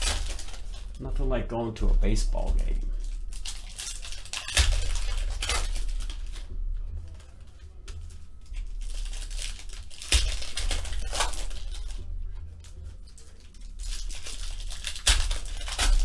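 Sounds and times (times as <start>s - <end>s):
foil tearing: 0.0s - 1.1s, 2.3s - 16.0s
foil packs crinkling: 0.0s - 1.3s, 2.0s - 16.0s
low steady hum: 0.0s - 16.0s.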